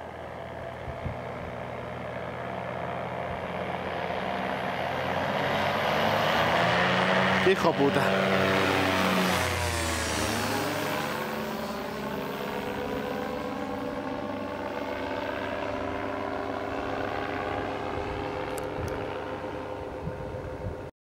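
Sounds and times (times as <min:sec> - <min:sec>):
microlight engine droning: 0:00.0 - 0:20.9.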